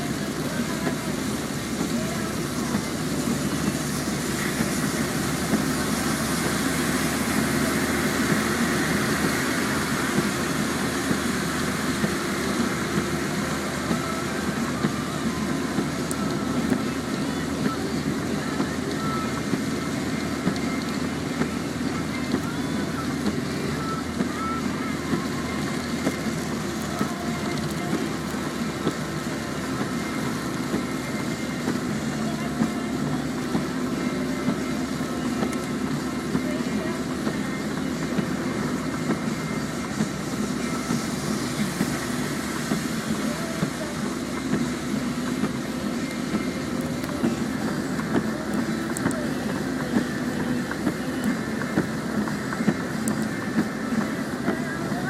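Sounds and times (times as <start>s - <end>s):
car engine and road noise: 0.0s - 55.0s
rain hiss: 0.0s - 55.0s.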